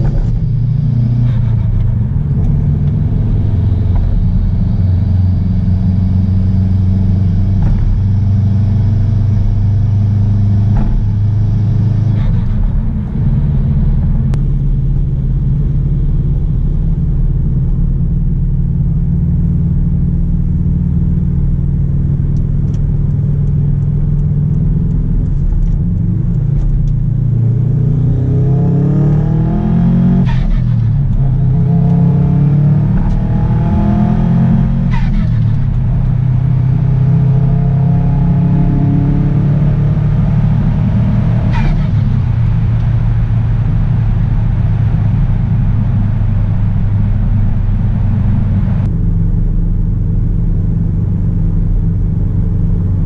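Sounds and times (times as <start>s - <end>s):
car engine rumbling and revving: 0.0s - 53.0s.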